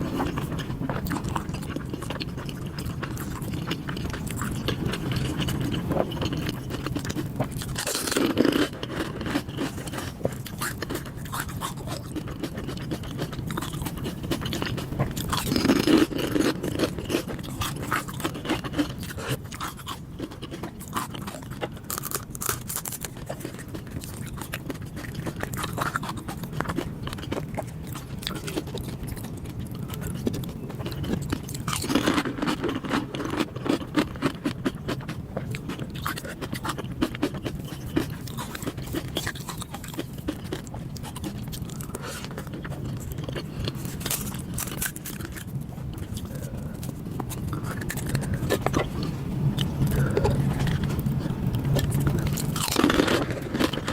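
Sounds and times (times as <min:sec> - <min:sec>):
chewing and biting: 0:00.0 - 0:53.9.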